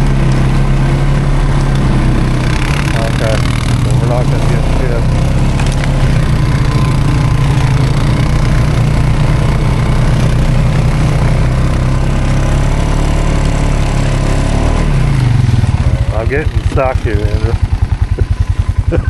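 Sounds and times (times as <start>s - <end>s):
quad engine running: 0.0s - 19.0s.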